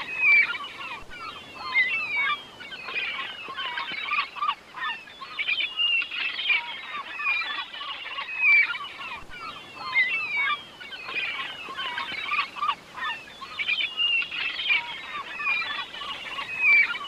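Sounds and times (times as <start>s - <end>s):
flock of birds squawking: 0.0s - 17.0s.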